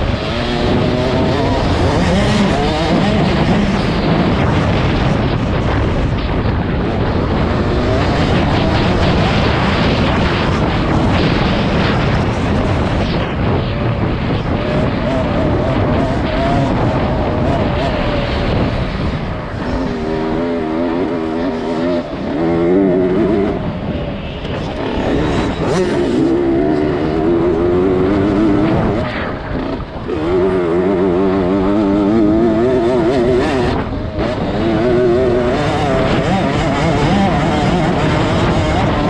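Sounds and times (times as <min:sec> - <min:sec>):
motocross bike engine revving: 0:00.0 - 0:39.0.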